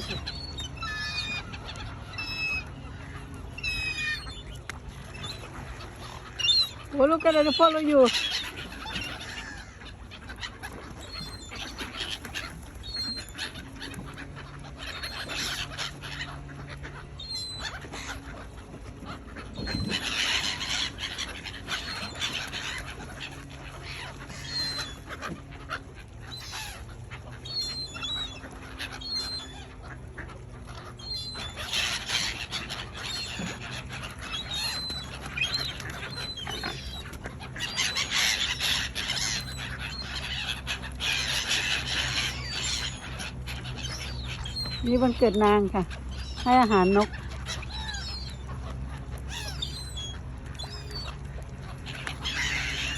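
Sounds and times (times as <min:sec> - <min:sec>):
gulls calling: 0:00.0 - 0:52.9.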